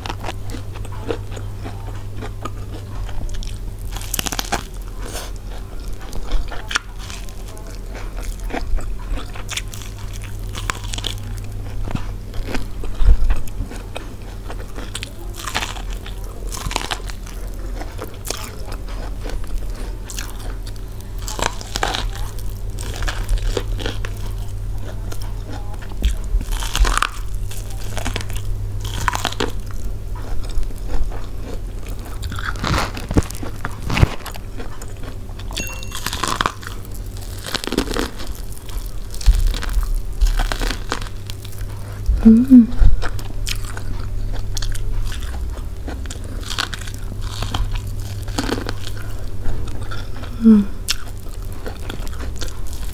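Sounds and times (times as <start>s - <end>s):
chewing: 0.0s - 52.9s
eating corn on the cob: 0.0s - 52.9s
steady low hum: 0.0s - 52.9s.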